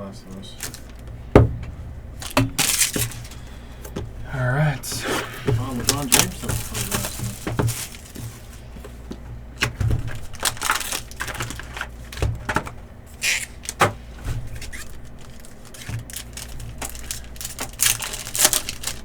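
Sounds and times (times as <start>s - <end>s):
cards clicking and tapping: 0.3s - 4.2s, 4.8s - 19.0s
packaging rustling: 0.3s - 19.0s.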